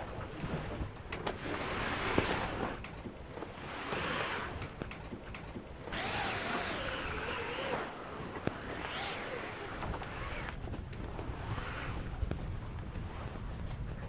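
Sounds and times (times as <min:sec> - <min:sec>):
sailcloth rustling and flapping: 0:00.0 - 0:14.0
waves: 0:00.0 - 0:14.0
wind on microphone: 0:00.0 - 0:14.0.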